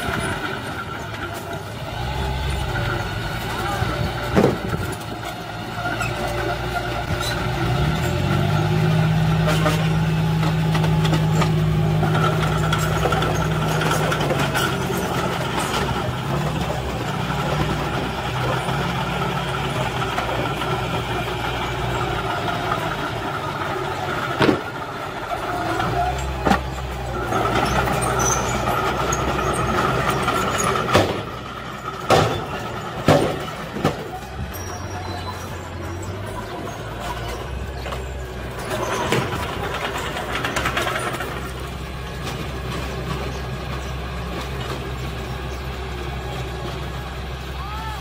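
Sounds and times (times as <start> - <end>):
crawler bulldozer engine: 0.0 - 48.0
dump truck diesel engine: 0.0 - 48.0.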